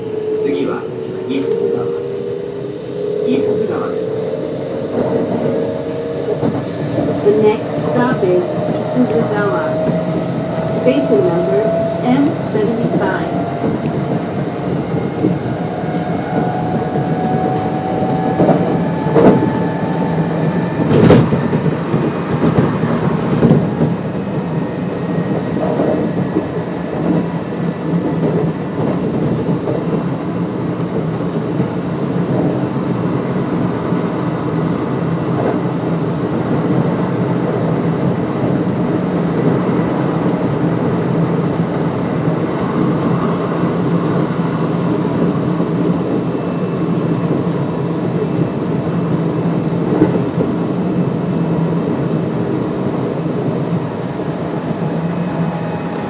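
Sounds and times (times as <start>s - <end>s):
electric train inverter whine: 0.0s - 30.7s, 39.6s - 56.0s
train rolling with wheel clacks: 0.0s - 56.0s.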